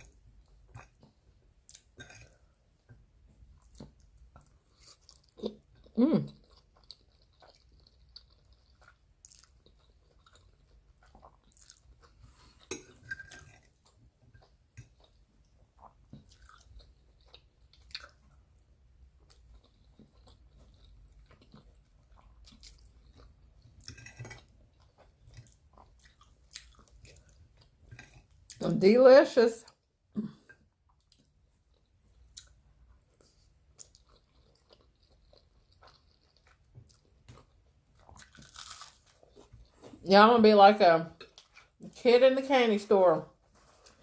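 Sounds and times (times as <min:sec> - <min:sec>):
person chewing spaghetti: 0:00.0 - 0:28.6, 0:29.7 - 0:40.1, 0:41.1 - 0:41.8, 0:43.4 - 0:44.0.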